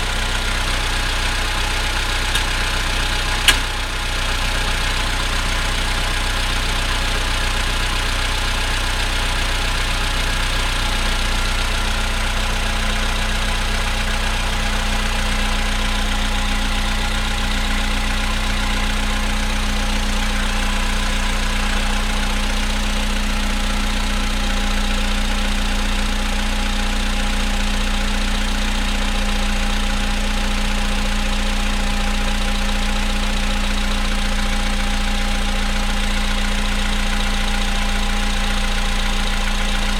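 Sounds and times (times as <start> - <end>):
car engine idling with knocking: 0.0 - 39.9.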